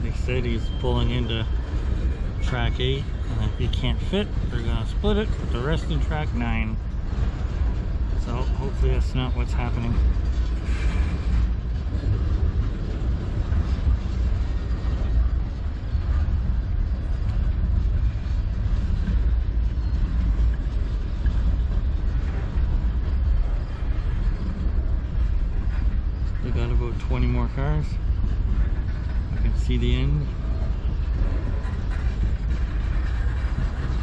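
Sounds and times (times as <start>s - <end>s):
freight train rolling on rails: 0.0s - 34.0s.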